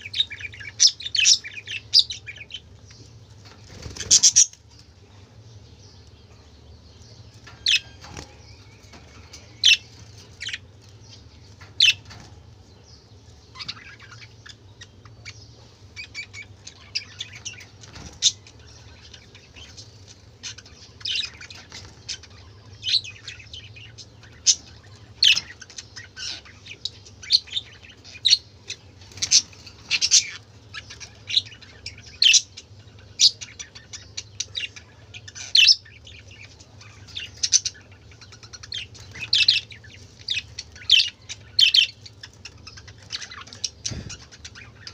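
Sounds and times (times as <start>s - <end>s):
budgerigars chirping and squawking: 0.0s - 44.9s
steady low hum: 0.0s - 44.9s.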